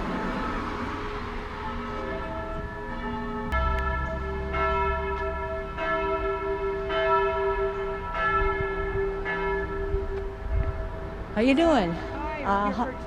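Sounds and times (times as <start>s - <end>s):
tower bells ringing: 0.0s - 13.0s.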